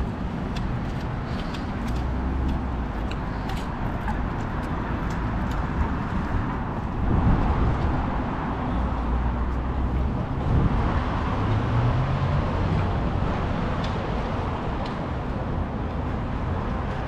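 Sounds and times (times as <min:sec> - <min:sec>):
motor vehicles running: 0:00.0 - 0:17.0.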